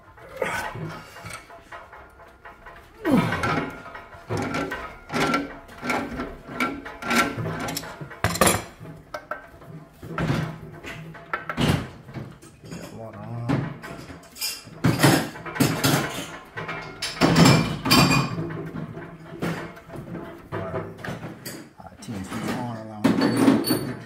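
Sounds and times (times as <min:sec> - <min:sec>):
tools knocking and clattering: 0:00.0 - 0:24.0.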